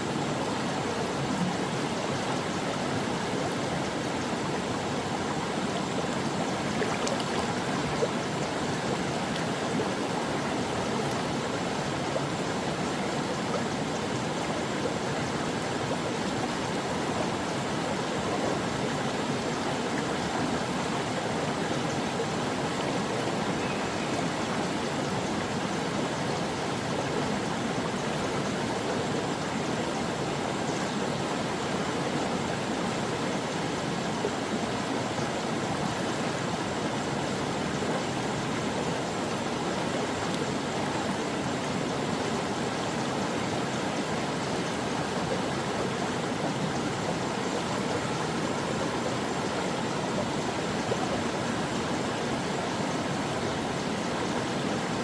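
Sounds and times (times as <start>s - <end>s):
brook flowing over rocks: 0.2s - 55.0s.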